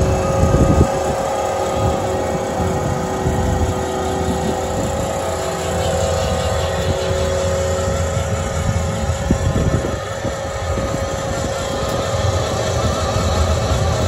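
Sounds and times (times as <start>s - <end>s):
diesel engine running under load: 0.0s - 14.0s
steady whine: 0.0s - 14.0s.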